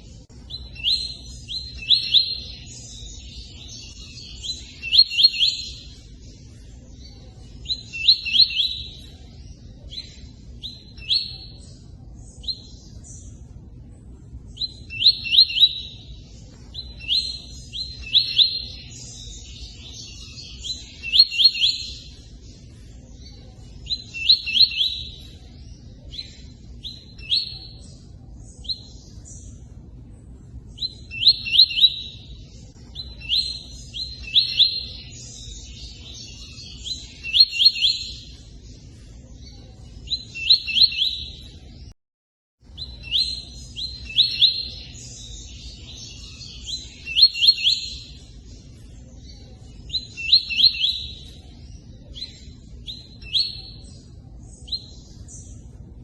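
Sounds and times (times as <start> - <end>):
bird chirping: 0.0 - 42.0, 42.6 - 56.0.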